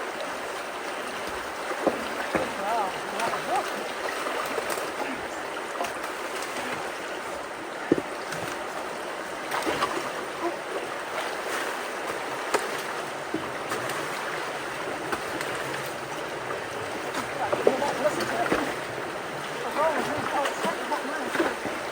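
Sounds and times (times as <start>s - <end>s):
creek water rushing: 0.0s - 21.9s.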